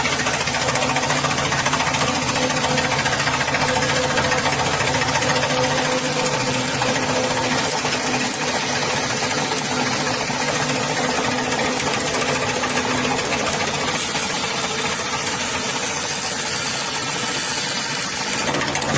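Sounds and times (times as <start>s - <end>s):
machine mechanical clatter: 0.0s - 18.9s.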